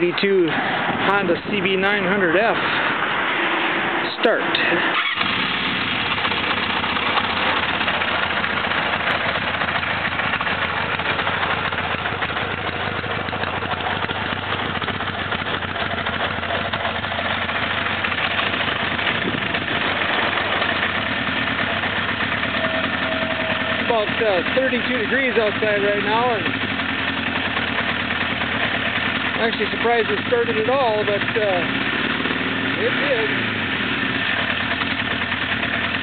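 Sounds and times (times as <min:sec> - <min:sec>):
motorcycle engine idling: 0:04.6 - 0:36.0.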